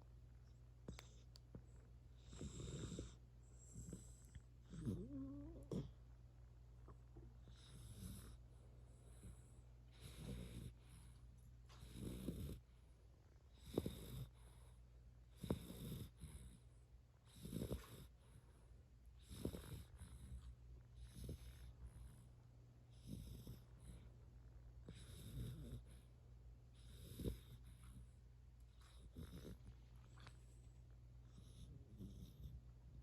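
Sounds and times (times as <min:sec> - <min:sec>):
puppy snoring faintly: 0:00.0 - 0:33.0.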